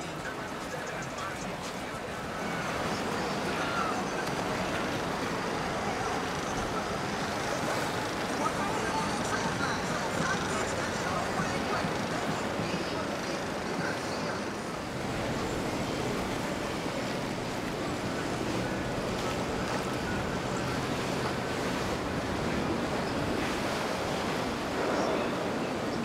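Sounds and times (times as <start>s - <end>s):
water washing: 0.0s - 26.0s.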